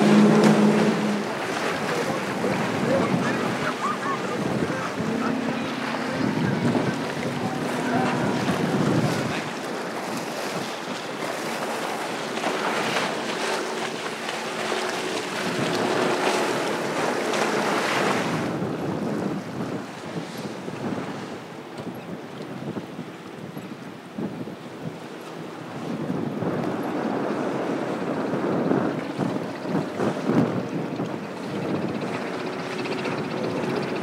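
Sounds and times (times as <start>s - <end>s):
outboard motor drone: 0.0s - 34.0s
wind buffeting microphone: 0.0s - 34.0s.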